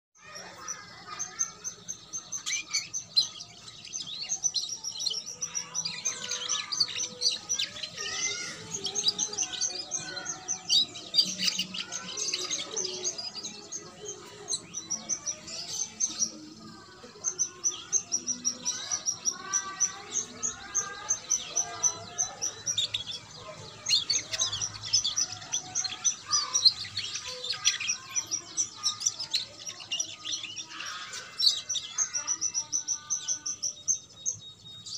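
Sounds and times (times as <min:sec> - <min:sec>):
canary singing twittering song: 0:00.2 - 0:34.9.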